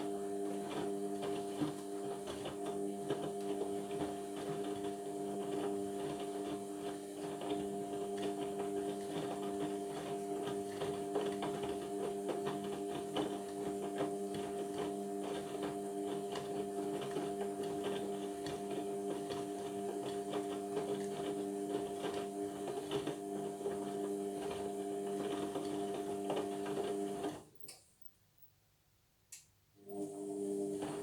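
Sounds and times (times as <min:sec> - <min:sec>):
washing machine motor hum: 0:00.0 - 0:27.5, 0:29.8 - 0:31.0.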